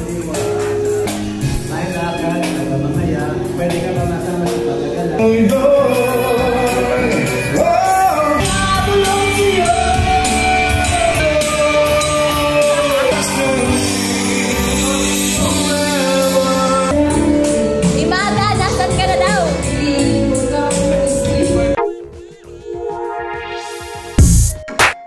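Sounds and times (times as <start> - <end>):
backing track music: 0.0 - 25.0
person singing into microphone: 1.5 - 23.3.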